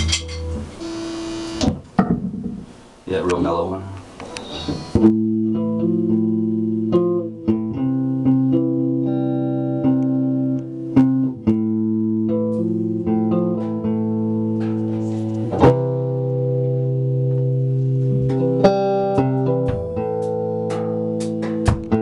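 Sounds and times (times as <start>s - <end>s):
electric guitar played slowly: 0.0s - 1.8s, 4.3s - 22.0s.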